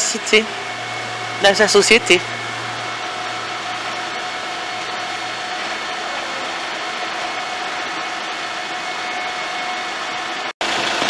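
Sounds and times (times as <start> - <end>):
faint steady whine: 0.0 - 10.3
mechanical hum and hiss: 0.0 - 11.0.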